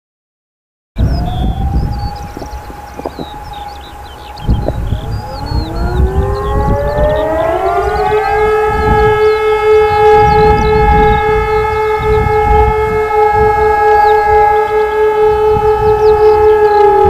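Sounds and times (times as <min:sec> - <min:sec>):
distant civil defence sirens wailing: 0:01.0 - 0:17.0.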